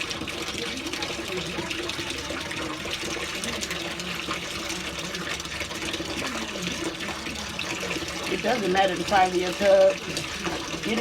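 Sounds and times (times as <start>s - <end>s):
tap running into bathtub: 0.0s - 11.0s.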